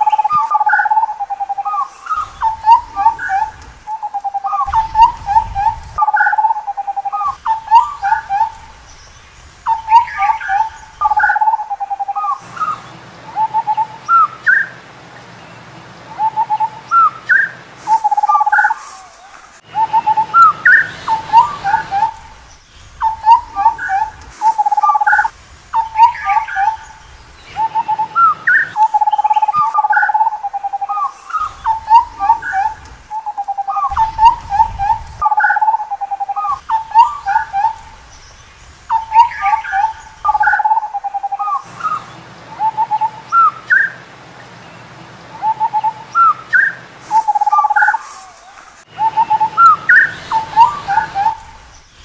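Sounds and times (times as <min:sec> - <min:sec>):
bird calling whistled phrases: 0:00.0 - 0:15.3, 0:16.1 - 0:44.1, 0:45.3 - 0:52.0.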